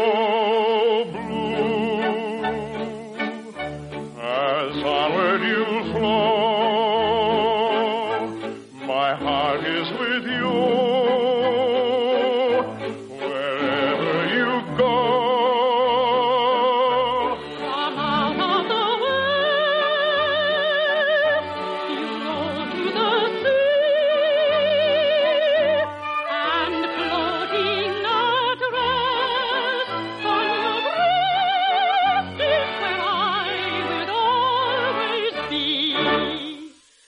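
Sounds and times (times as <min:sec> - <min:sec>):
operatic singing: 0:00.0 - 0:36.9
orchestra playing: 0:00.0 - 0:37.0.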